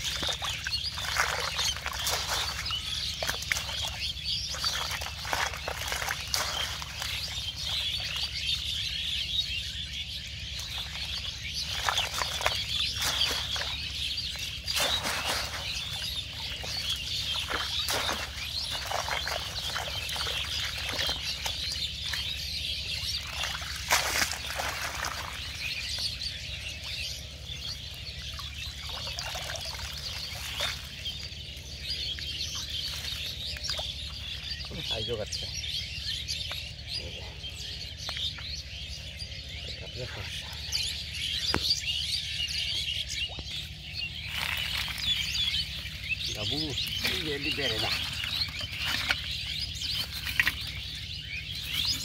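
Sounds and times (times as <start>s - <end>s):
water splashing and dripping: 0.0s - 8.8s, 10.6s - 35.0s, 43.2s - 52.0s
small birds chirping: 0.0s - 52.0s.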